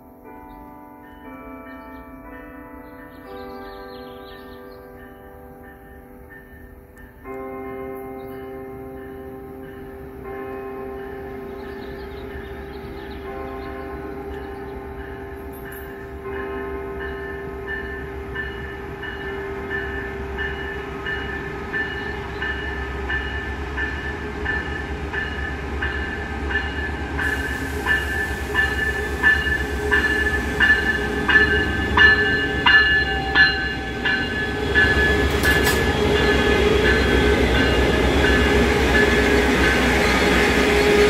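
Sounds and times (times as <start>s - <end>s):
locomotive bell ringing: 0.0s - 41.0s
train rumble and rail noise: 0.0s - 41.0s.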